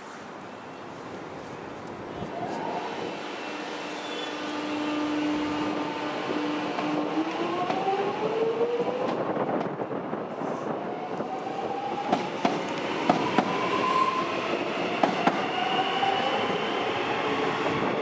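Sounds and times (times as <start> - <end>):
train rumble: 1.2 - 18.0.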